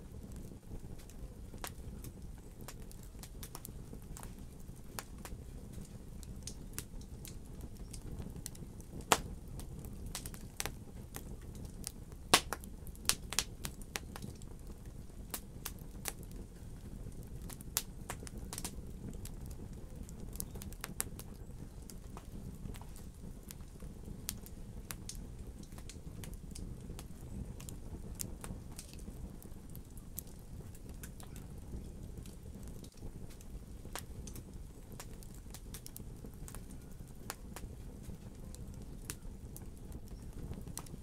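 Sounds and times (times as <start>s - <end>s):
fire flame rushing: 0.0s - 41.0s
logs crackling and popping: 0.0s - 41.0s.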